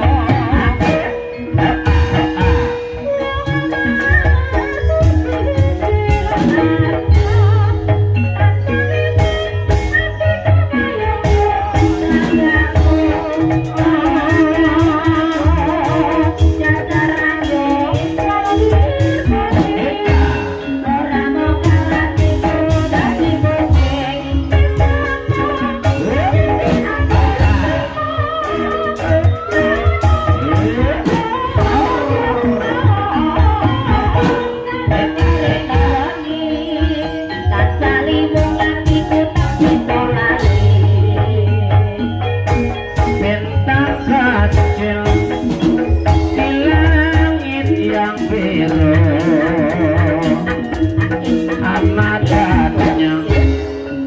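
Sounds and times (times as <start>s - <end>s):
held pitched instrument tones: 0.0s - 54.0s
person singing: 0.0s - 54.0s.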